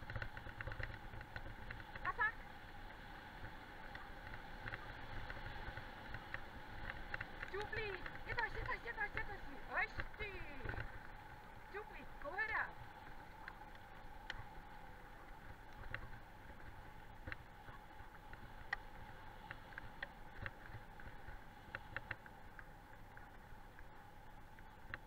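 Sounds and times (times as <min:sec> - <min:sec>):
small clicks and rattles: 0:00.0 - 0:14.7, 0:15.4 - 0:23.9
wheels rolling on gravel: 0:00.0 - 0:25.0.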